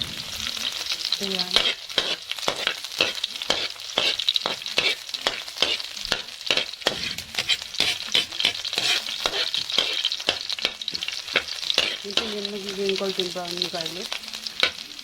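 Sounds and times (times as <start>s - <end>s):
garlic sizzling in oil: 0.0s - 15.0s
stirring strokes against pan: 0.0s - 15.0s.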